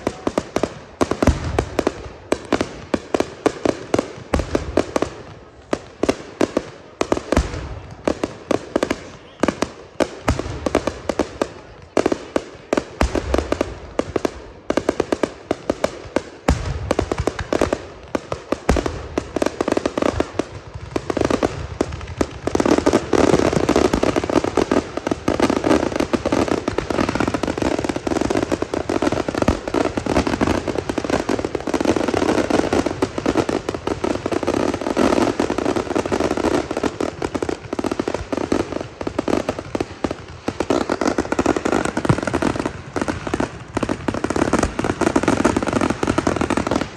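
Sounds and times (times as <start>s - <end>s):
firework crackle: 0.0s - 46.9s.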